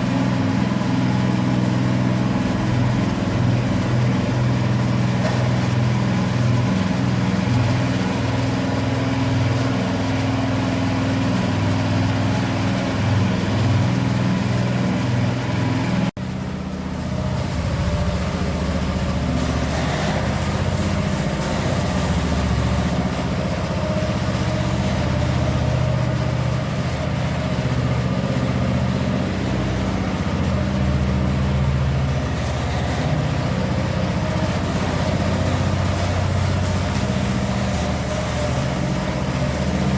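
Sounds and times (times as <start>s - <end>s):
power trowel engine running: 0.0s - 39.9s.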